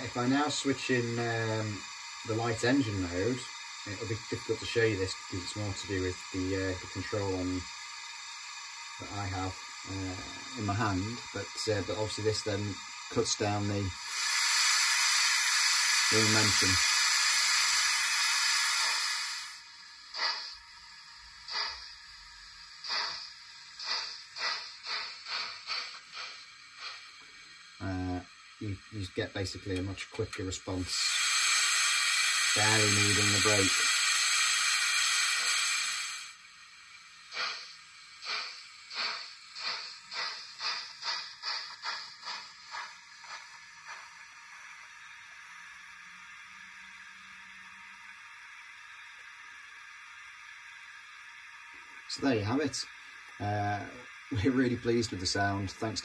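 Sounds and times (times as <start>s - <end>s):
steam hiss: 0.0s - 56.0s
steam locomotive exhaust chuffs: 0.0s - 56.0s.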